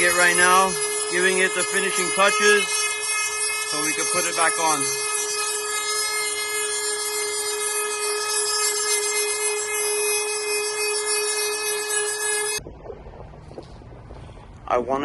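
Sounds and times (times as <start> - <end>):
rotary tool sanding plastic: 0.0 - 12.6.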